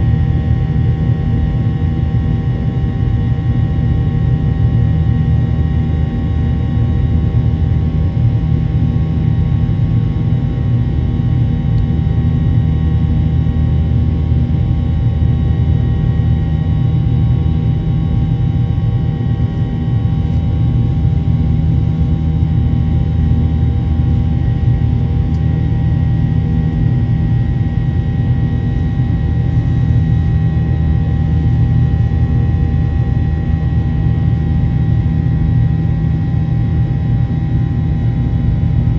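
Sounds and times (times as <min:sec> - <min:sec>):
jet engine rumble in cabin: 0:00.0 - 0:38.9.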